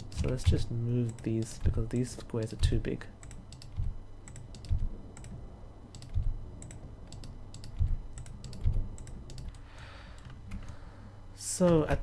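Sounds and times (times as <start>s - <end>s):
keyboard and mouse clicks: 0.0s - 10.8s.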